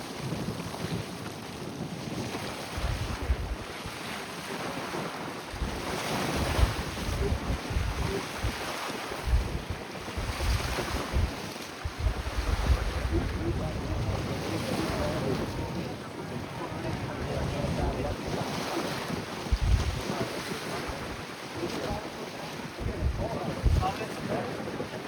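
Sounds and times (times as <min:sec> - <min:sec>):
rush of wind and water: 0:00.0 - 0:25.0
wind buffeting microphone: 0:00.0 - 0:25.0.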